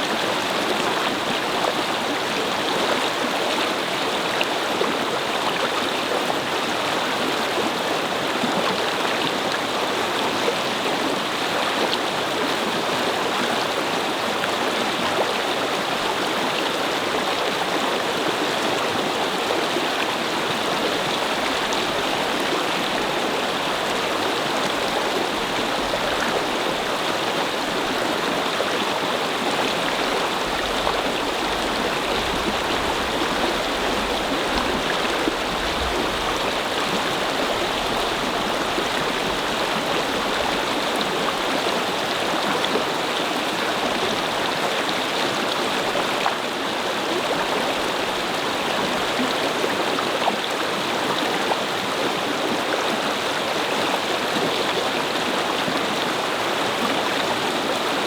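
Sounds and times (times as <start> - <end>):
brook babbling over stones: 0.0 - 58.0.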